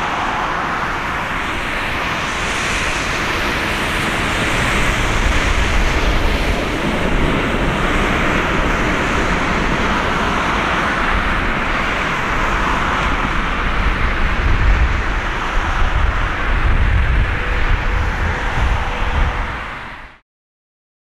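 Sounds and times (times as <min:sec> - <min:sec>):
jet engines rushing: 0:00.0 - 0:20.2.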